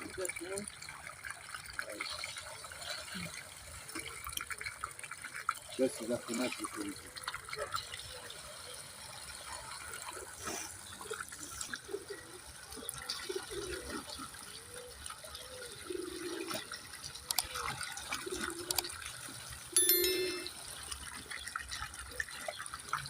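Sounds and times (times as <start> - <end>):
water running and gurgling: 0.0 - 23.0.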